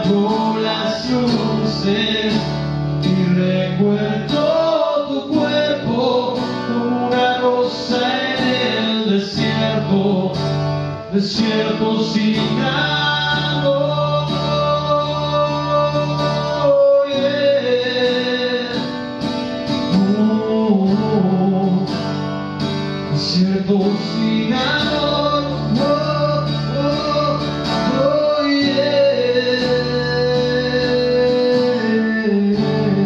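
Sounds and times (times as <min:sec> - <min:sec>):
man singing: 0:00.0 - 0:19.1, 0:19.7 - 0:22.2, 0:23.1 - 0:33.0
acoustic guitar strumming: 0:00.0 - 0:33.0.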